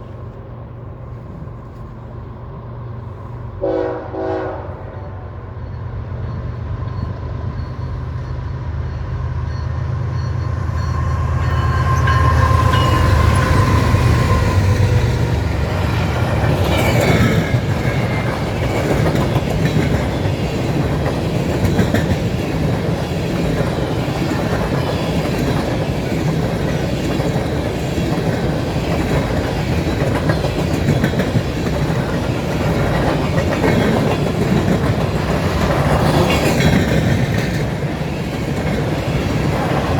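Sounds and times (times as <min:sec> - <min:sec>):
diesel locomotive engine drone: 0:00.0 - 0:39.9
train wheel clatter: 0:05.6 - 0:39.9.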